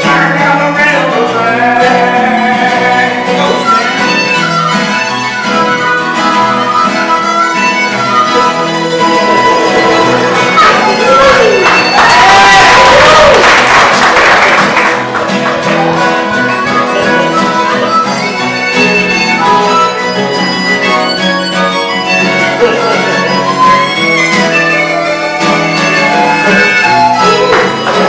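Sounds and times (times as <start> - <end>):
acoustic guitar strumming: 0.0 - 28.0
fiddle: 0.0 - 28.0
harmonica chords: 0.0 - 28.0.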